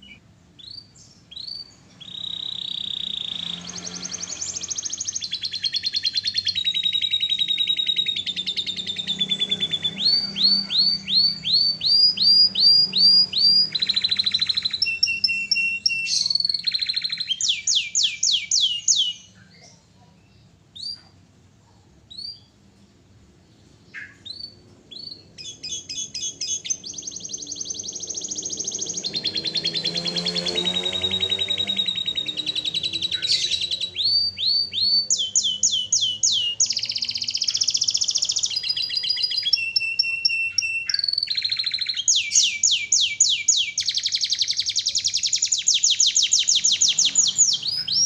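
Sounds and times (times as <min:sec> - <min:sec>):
canary singing: 0:00.0 - 0:21.3, 0:22.1 - 0:48.0.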